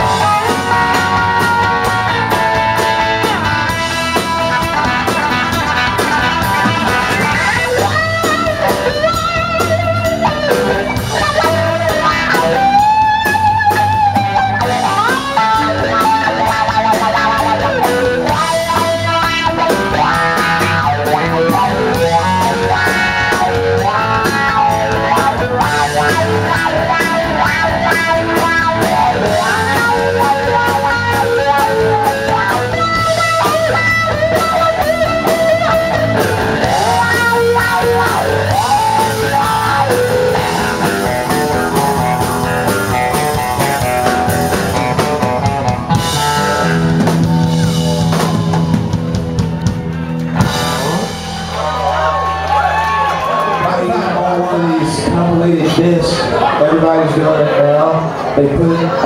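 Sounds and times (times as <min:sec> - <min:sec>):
electric guitar lead note bending: 0:00.0 - 0:51.9
country-rock band playing: 0:00.0 - 0:59.0.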